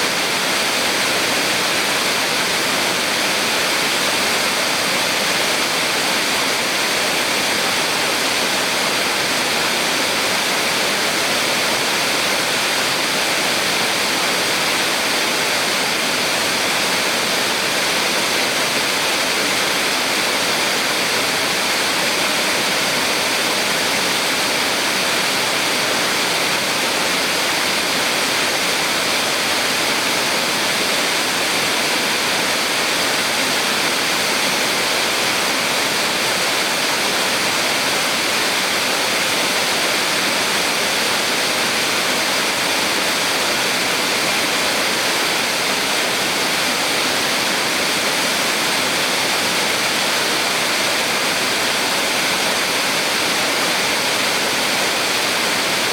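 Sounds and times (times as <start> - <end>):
small waterfall rushing: 0.0 - 55.9.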